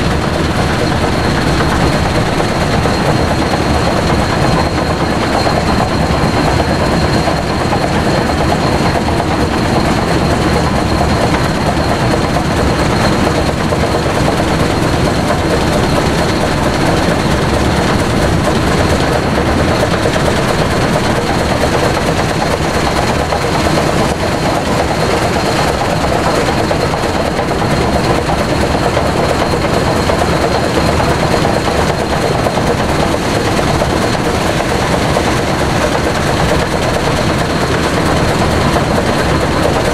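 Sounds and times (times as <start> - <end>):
steam locomotive running: 0.0 - 39.9.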